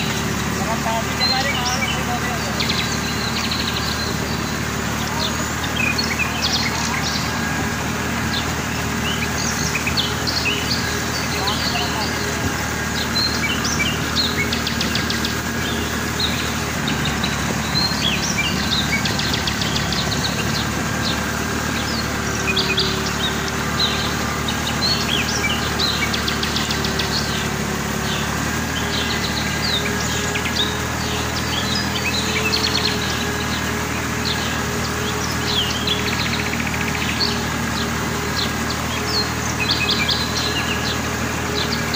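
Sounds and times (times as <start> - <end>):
birds chirping and trilling: 0.0 - 41.9
tractor engine humming: 0.0 - 41.9.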